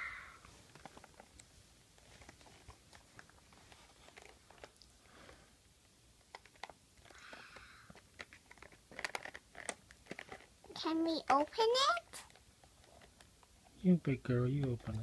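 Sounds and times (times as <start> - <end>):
faint small clicks and crackles: 0.4 - 13.7.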